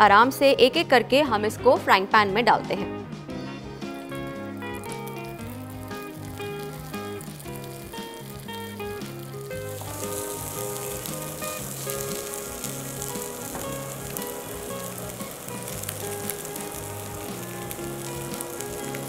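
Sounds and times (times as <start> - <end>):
background music: 0.0 - 19.0
food sizzling in oil: 3.7 - 19.0.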